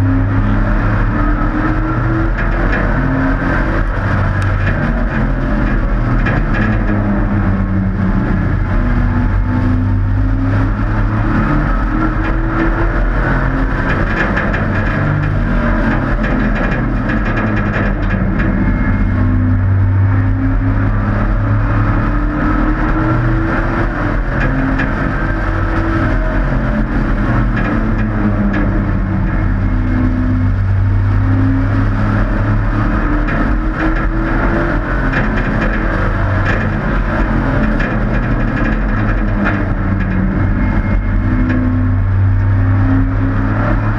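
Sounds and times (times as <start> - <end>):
race truck engines revving: 0.0 - 43.9.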